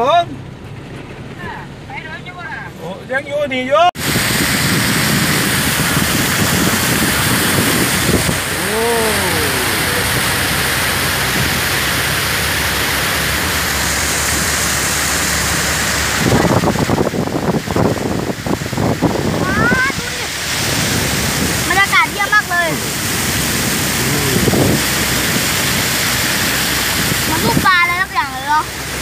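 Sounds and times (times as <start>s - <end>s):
water spray and tyre noise: 0.0s - 29.0s
knocks and splashes: 4.0s - 29.0s.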